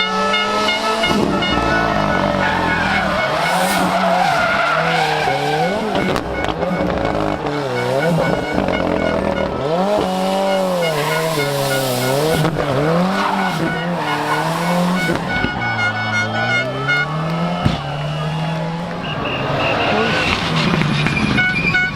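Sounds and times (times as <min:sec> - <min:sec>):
rally car engine revving: 0:00.0 - 0:21.9
tyres squealing and skidding: 0:00.0 - 0:21.9.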